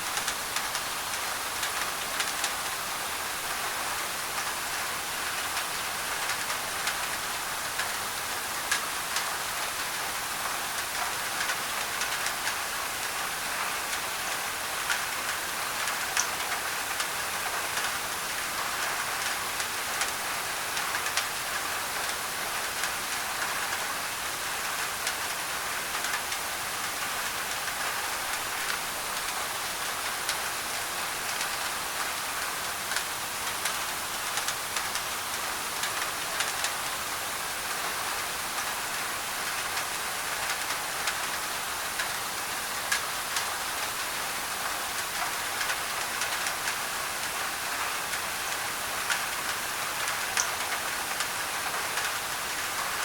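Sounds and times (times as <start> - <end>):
rain on a tin roof: 0.0 - 53.0
white noise hiss: 0.0 - 53.0.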